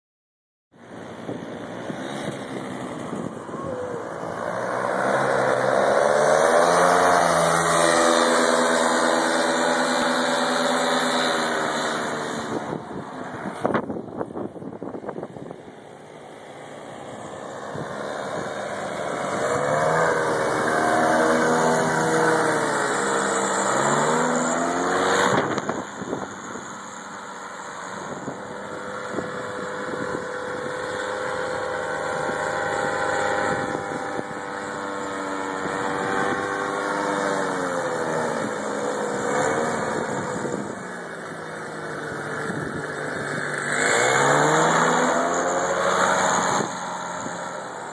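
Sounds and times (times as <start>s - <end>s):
paramotor engines buzzing past: 0.8s - 47.9s.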